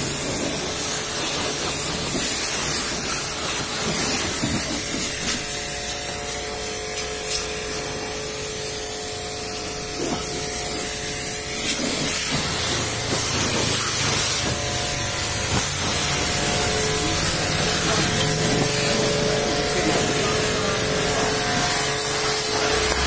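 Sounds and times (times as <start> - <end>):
pressure washer spraying water: 0.0 - 23.0.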